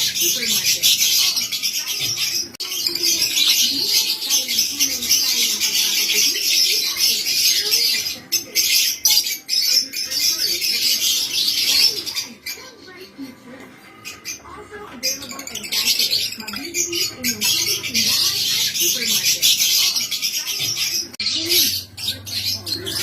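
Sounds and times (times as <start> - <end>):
lovebirds chattering and squawking: 0.0 - 23.0.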